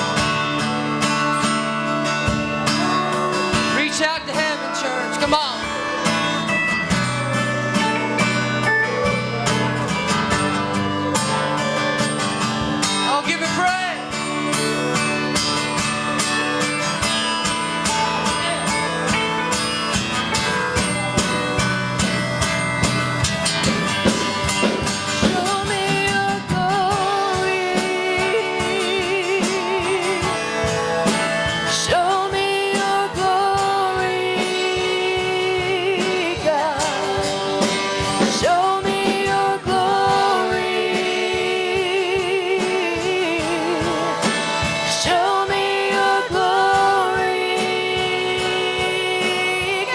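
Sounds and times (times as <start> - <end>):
people singing: 0.0 - 49.9
strummed acoustic guitar: 0.0 - 49.9.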